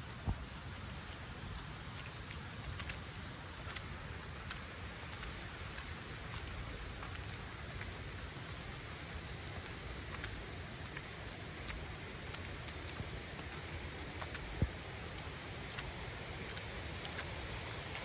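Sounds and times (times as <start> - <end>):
rain pattering on surfaces: 0.0 - 18.0.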